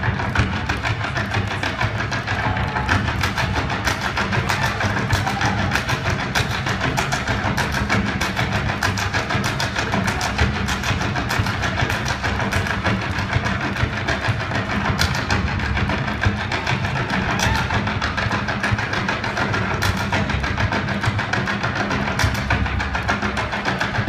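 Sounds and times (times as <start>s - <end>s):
dancers' percussive clicks: 0.0s - 24.0s
live stage music: 0.0s - 24.0s.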